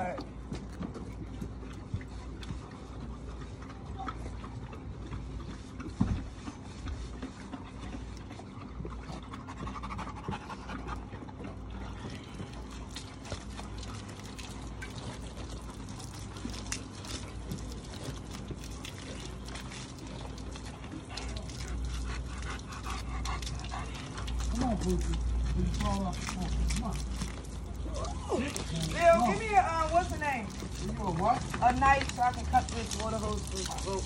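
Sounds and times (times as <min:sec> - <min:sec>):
dogs panting: 0:00.0 - 0:34.0
scrubbing wet soapy fur: 0:00.0 - 0:34.0.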